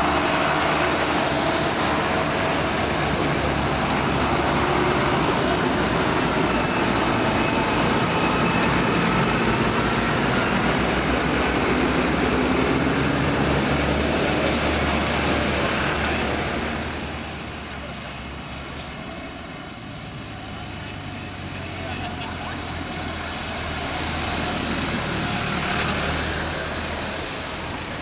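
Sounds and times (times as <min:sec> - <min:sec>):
tractor engines running: 0:00.0 - 0:28.0
tyre noise on road: 0:00.0 - 0:28.0.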